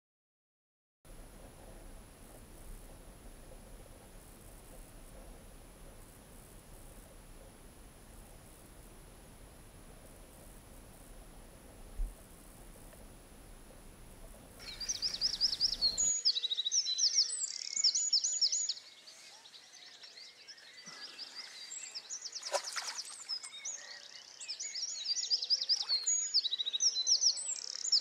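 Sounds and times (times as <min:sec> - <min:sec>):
songbirds chirping trills: 0:01.2 - 0:28.0.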